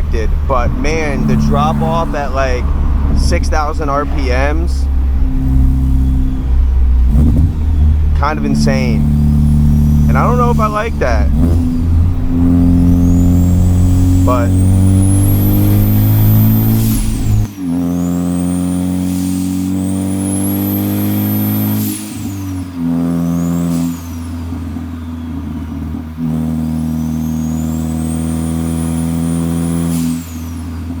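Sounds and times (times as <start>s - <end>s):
turbo whistle: 0.0s - 30.9s
car engine accelerating: 0.0s - 31.0s.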